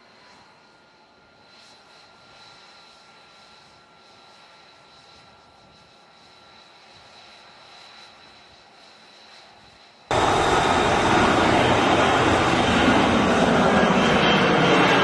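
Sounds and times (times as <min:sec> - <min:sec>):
jet engine whine: 0:00.0 - 0:15.0
loud jet engine noise hovering: 0:00.0 - 0:15.0.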